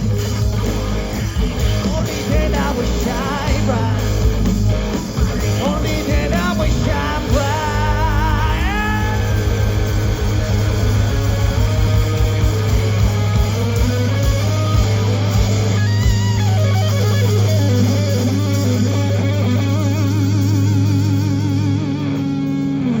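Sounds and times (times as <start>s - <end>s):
rock band playing: 0.0s - 23.0s
vibrato electric guitar lead: 0.0s - 23.0s.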